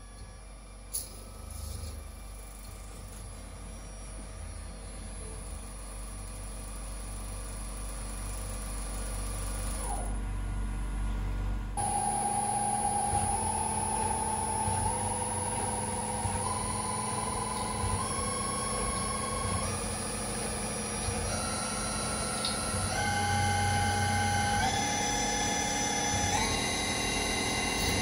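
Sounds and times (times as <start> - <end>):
spindle motor whine: 0.0 - 28.0
steady machine hum: 0.0 - 28.0.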